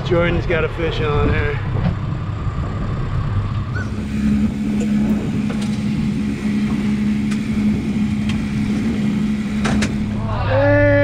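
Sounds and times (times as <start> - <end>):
boat engine humming: 1.6 - 11.0.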